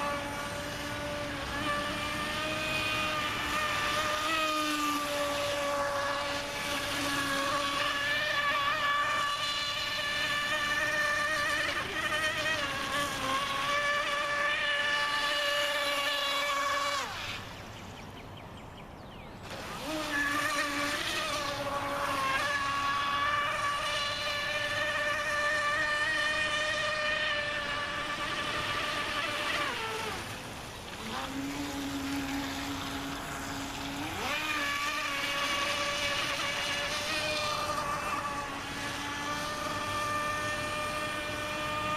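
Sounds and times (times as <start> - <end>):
electric motor high-pitched whine: 0.0 - 18.0, 19.4 - 41.9.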